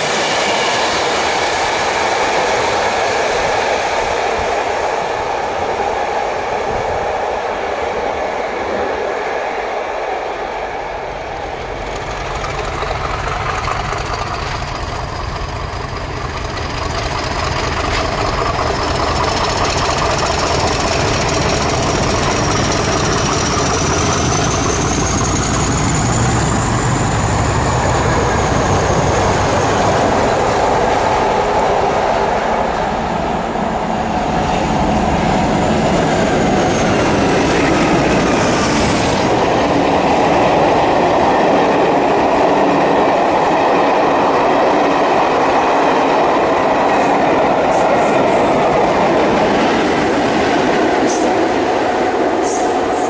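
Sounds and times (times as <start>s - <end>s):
diesel locomotive engine drone: 0.0s - 53.0s
wheel and rail noise: 0.0s - 53.0s.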